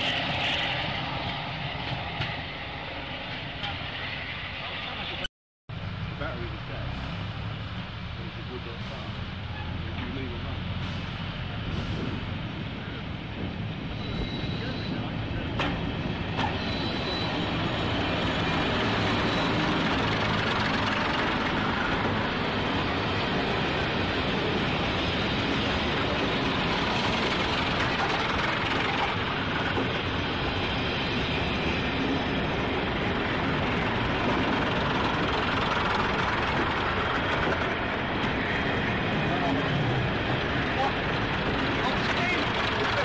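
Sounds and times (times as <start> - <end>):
train diesel engines droning: 0.0 - 43.0
train wheel and rail noise: 0.0 - 43.0.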